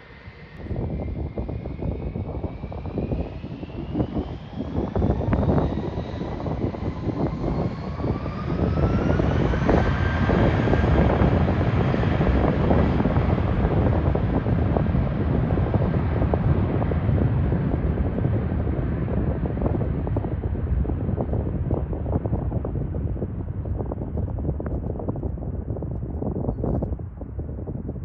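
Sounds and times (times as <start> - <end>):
jet engines whining: 0.0 - 23.2
heavy rumble: 0.0 - 28.0.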